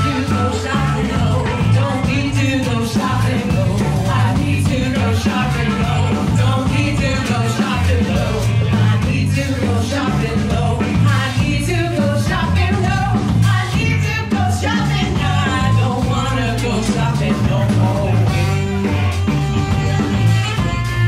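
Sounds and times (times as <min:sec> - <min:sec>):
drum kit: 0:00.0 - 0:21.0
electric guitar: 0:00.0 - 0:21.0
person singing: 0:00.0 - 0:21.0
saxophone: 0:00.0 - 0:21.0.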